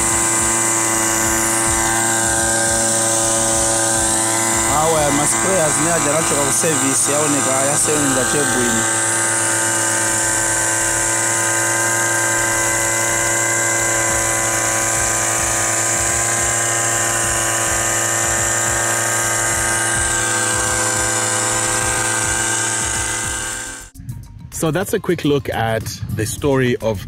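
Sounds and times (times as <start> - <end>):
small engine humming: 0.0 - 24.0.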